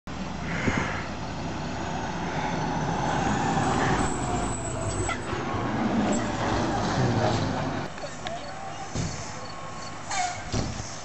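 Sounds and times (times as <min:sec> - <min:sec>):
fire engine diesel passing by: 0:00.1 - 0:11.0.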